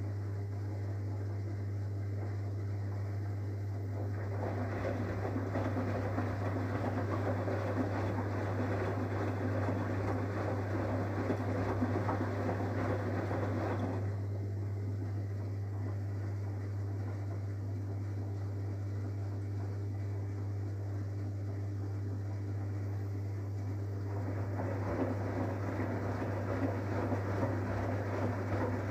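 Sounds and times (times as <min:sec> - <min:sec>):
washing machine hum: 0:00.0 - 0:28.9
water sloshing in washing machine: 0:00.0 - 0:28.9.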